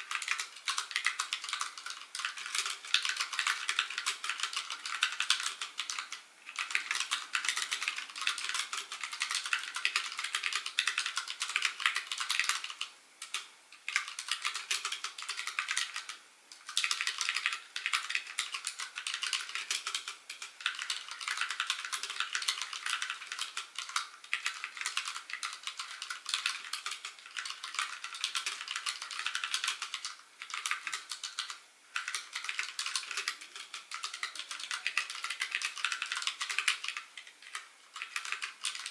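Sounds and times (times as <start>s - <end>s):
rapid clicking and tapping: 0.0s - 38.9s.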